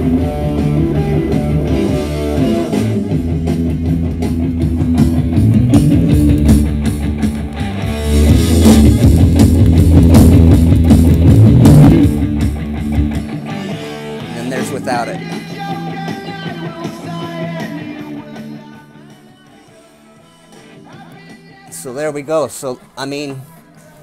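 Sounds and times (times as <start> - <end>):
rock music with guitar and drums: 0.0 - 24.0.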